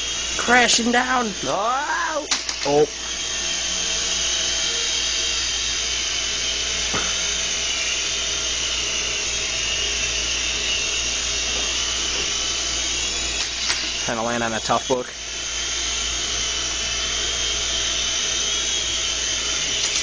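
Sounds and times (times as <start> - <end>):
small electric motors whining: 0.0 - 20.0
toy helicopter rotor blades whirring: 0.0 - 20.0.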